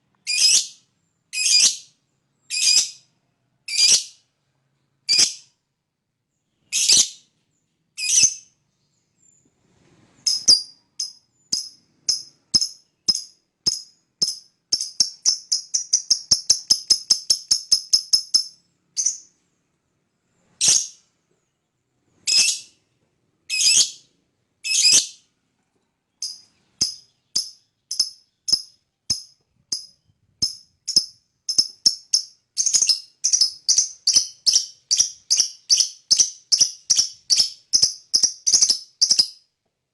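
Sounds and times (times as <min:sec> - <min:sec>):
lovebird chirping: 0:00.2 - 0:04.2, 0:05.0 - 0:05.5, 0:06.4 - 0:09.5, 0:10.2 - 0:19.5, 0:20.4 - 0:22.9, 0:23.5 - 0:25.3, 0:26.1 - 0:39.5.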